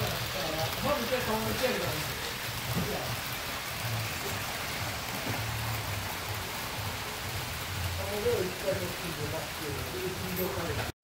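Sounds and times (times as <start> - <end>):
model train wheels rolling on rail: 0.0 - 10.9.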